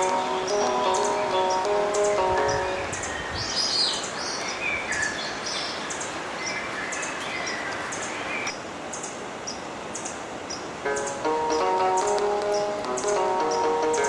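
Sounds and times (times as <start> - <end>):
birds chirping: 0.0 - 14.0
river water rushing: 0.0 - 14.0.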